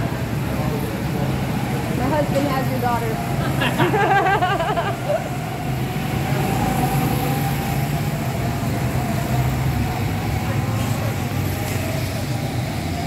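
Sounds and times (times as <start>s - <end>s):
go-kart engine droning: 0.0s - 13.0s.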